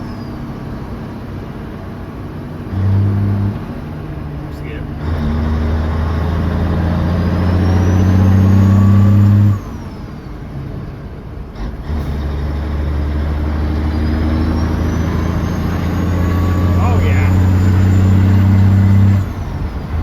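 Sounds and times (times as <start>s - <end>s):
lorry diesel engine revving: 0.0s - 20.0s.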